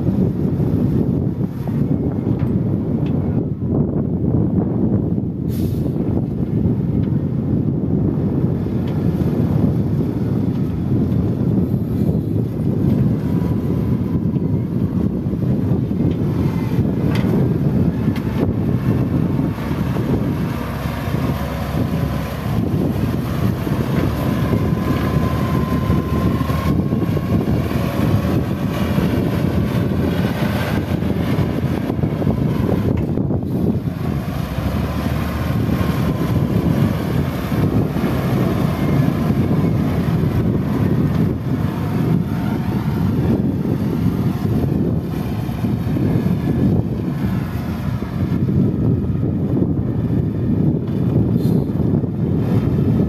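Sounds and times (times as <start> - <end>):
diesel engine running under load: 0.0 - 53.0
wind buffeting microphone: 0.0 - 53.0.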